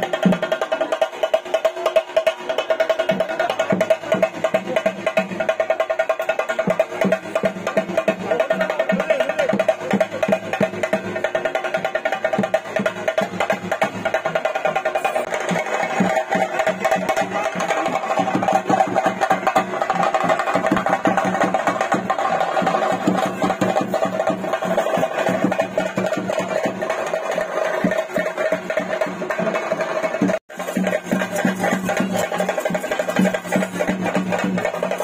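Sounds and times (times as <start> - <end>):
fast ritual drumming: 0.0 - 35.0.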